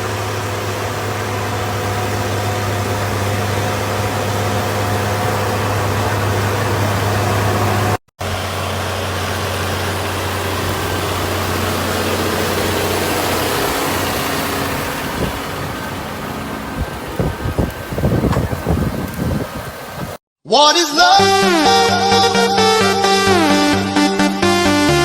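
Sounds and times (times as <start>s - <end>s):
engine running steadily: 0.0s - 20.2s.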